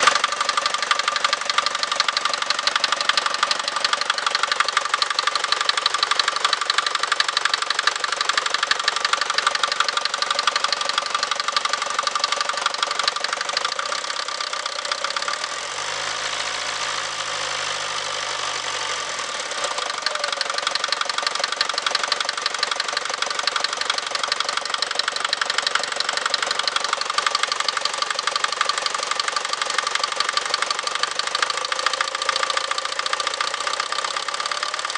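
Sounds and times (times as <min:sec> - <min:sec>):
diesel engine knocking: 0:00.0 - 0:15.6, 0:19.2 - 0:34.9.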